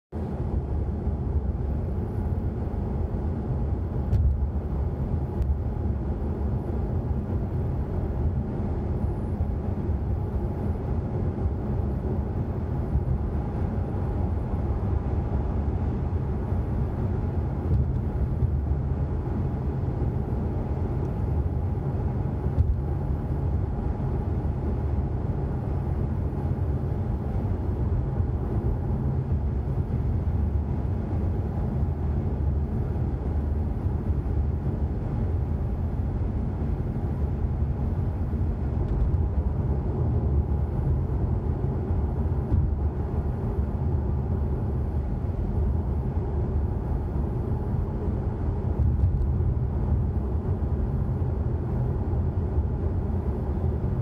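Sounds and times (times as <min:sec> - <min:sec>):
road and engine noise inside car: 0:00.1 - 0:54.0.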